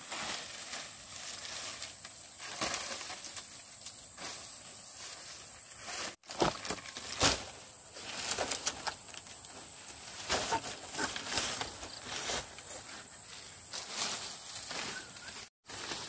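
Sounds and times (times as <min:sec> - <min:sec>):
dry leaf thatch rustling: 0:00.0 - 0:16.0.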